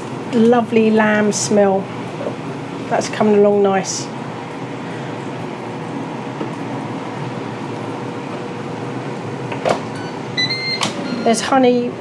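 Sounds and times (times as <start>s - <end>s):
air fryer fan whirring: 0.0s - 12.0s.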